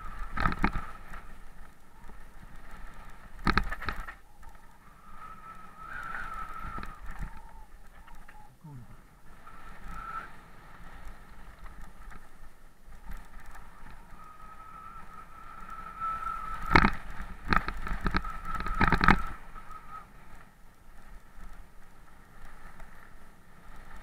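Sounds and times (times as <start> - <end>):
steady high whine: 0.0 - 20.5
bike rattling over bumps: 0.0 - 24.0
mountain bike riding on gravel: 0.0 - 24.0.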